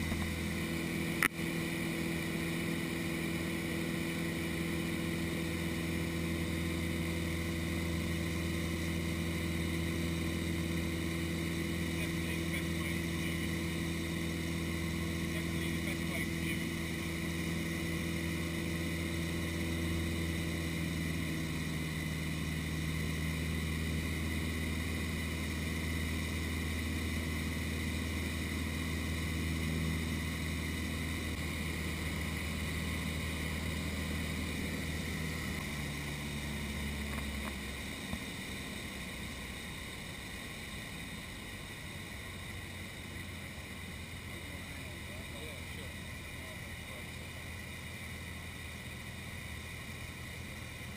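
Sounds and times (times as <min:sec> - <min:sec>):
small plane engine droning: 0:00.0 - 0:50.9.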